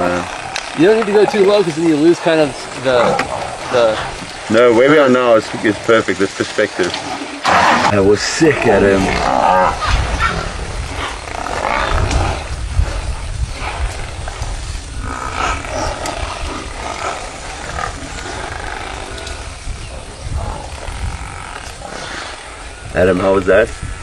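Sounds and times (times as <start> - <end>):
lions growling: 0.0 - 24.0.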